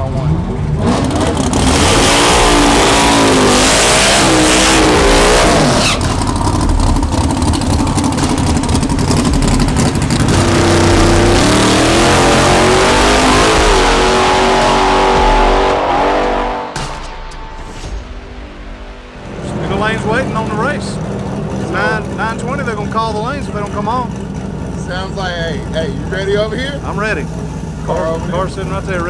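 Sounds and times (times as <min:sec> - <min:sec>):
car engine revving hard: 0:00.0 - 0:16.9, 0:19.2 - 0:29.0.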